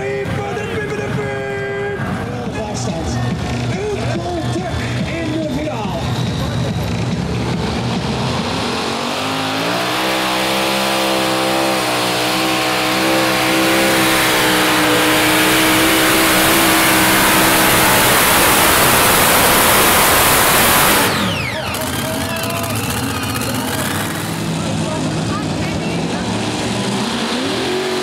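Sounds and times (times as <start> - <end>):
pulling tractor engines at full throttle: 0.0 - 28.0.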